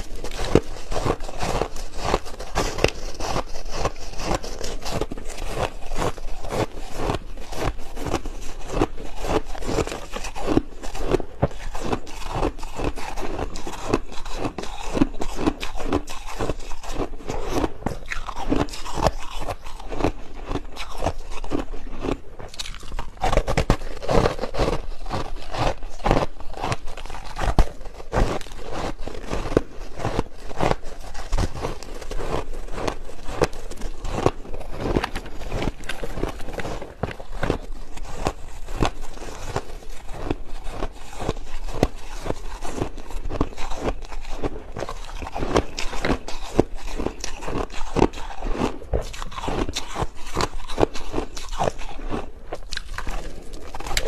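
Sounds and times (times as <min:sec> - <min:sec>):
chewing crushed ice: 0:00.0 - 0:54.0.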